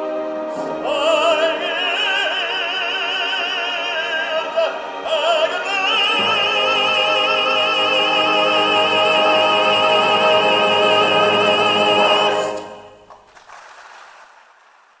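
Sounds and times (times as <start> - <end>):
operatic tenor singing: 0.0 - 13.1.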